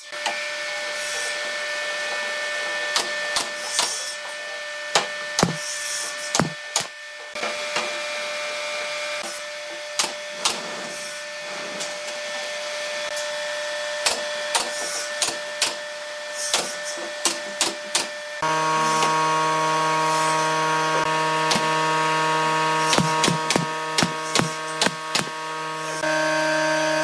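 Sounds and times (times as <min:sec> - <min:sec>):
power tool humming: 0:00.0 - 0:27.0.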